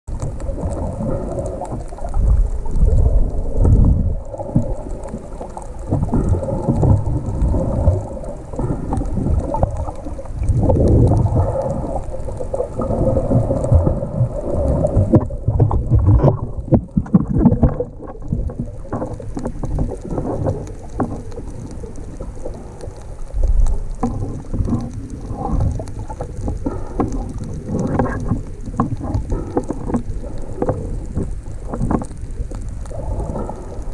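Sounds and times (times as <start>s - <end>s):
scattered crackles: 0.0s - 33.9s
underwater water rumbling: 0.0s - 33.9s.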